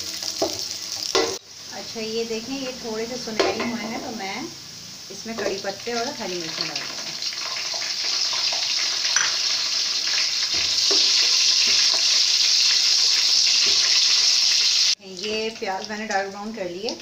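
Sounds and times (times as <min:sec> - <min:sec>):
onions sizzling in hot fat: 0:00.0 - 0:17.0.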